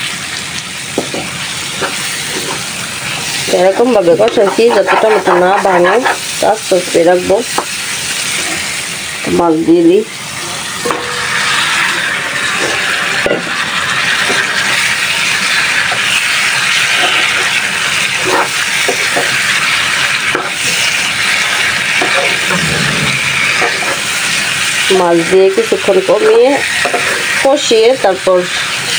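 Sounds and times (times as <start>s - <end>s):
fish sizzling in a frying pan: 0.0s - 28.9s.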